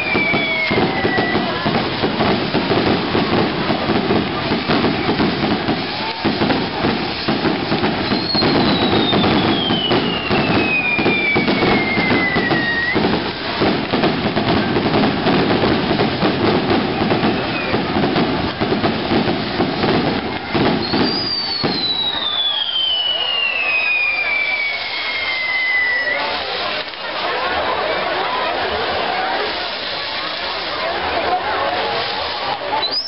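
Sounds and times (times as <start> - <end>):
falling firework whistle: 0.0 - 26.8, 32.4 - 33.0
fireworks crackling and popping: 0.0 - 33.0.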